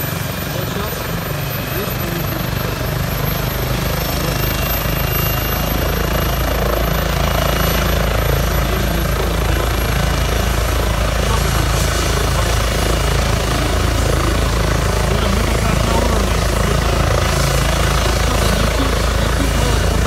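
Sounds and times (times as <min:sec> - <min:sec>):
helicopter rotor beat: 0:00.0 - 0:20.0
helicopter turbine whine: 0:00.0 - 0:20.0.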